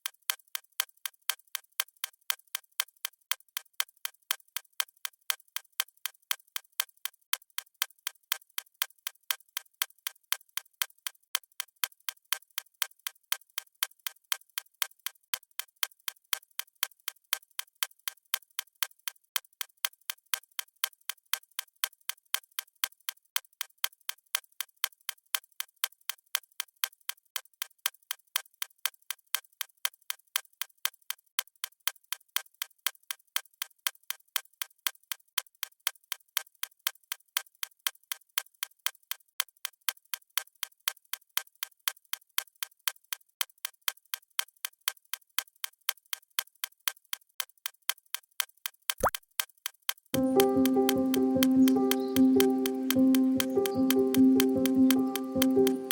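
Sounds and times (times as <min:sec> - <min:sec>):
clock-style timer ticking: 0:00.0 - 0:55.9.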